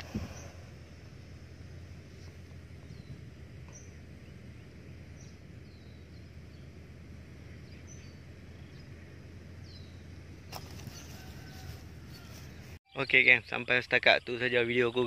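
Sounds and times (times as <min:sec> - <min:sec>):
outdoor background rumble: 0:00.0 - 0:12.8
small bird chirping: 0:02.1 - 0:06.8, 0:07.4 - 0:15.0.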